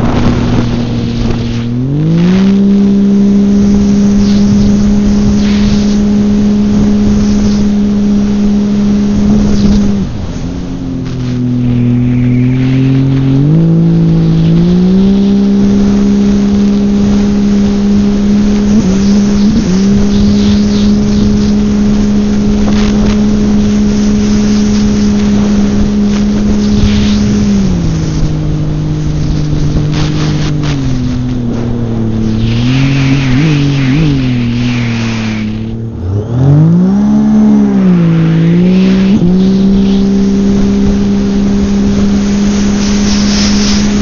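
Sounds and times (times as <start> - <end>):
watercraft engine running: 0.0 - 44.0
water spray hissing: 3.8 - 7.8, 9.2 - 35.8, 37.7 - 44.0.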